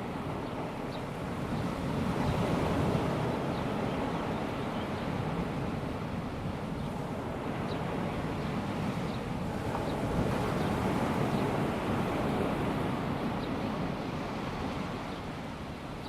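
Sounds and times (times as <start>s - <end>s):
small waves breaking on sand: 0.0s - 16.0s.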